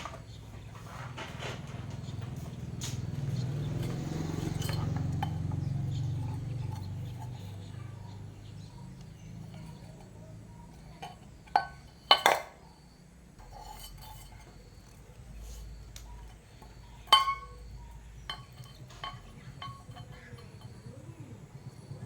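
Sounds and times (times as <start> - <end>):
metal tools clinking: 1.1 - 7.7, 8.8 - 12.6, 13.4 - 20.9.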